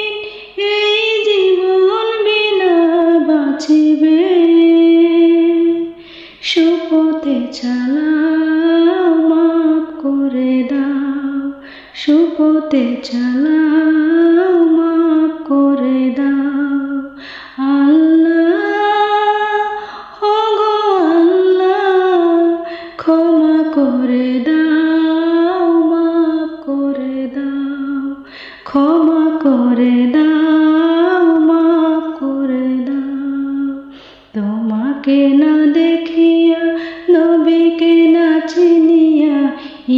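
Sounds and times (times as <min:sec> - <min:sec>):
woman singing: 0:00.0 - 0:39.9.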